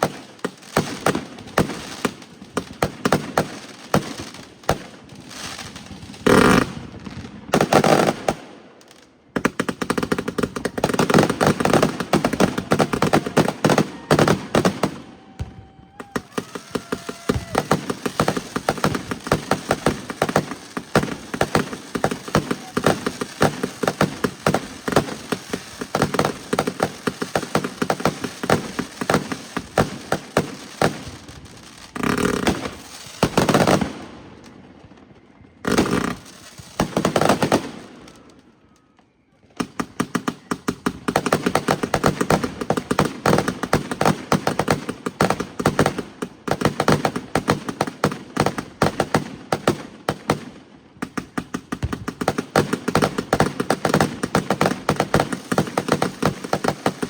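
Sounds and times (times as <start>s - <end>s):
fireworks cracking and popping: 0.0s - 57.0s.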